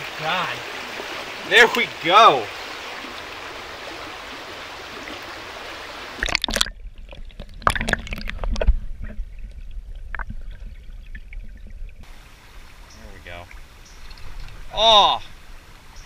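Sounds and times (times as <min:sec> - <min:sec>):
shallow stream running: 0:00.0 - 0:16.0.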